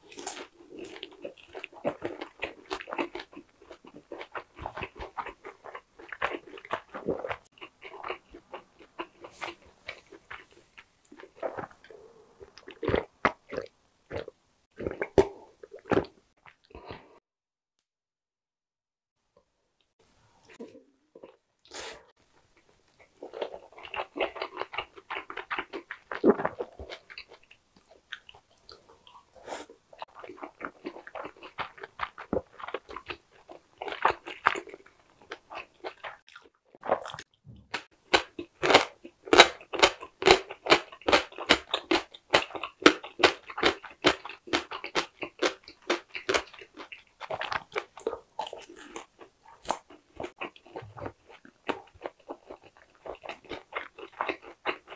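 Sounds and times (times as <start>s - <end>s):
soft wet chewing: 0.0s - 17.2s, 19.8s - 54.9s.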